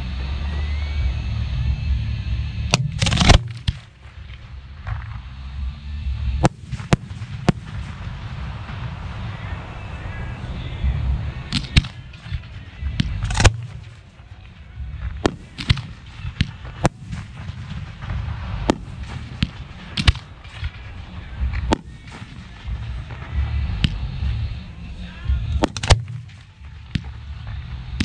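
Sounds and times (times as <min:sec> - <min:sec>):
low rumble: 0:00.0 - 0:28.0
firework bangs: 0:02.7 - 0:05.6, 0:06.3 - 0:28.0.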